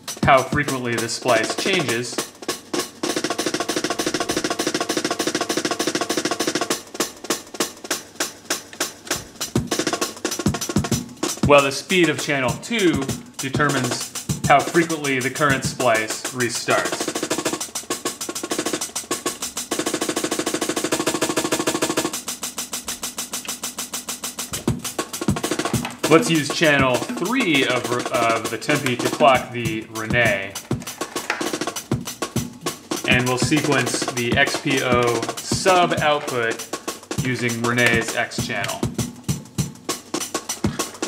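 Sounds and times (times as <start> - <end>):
stuttering breakbeat drum loop: 0.0 - 41.0.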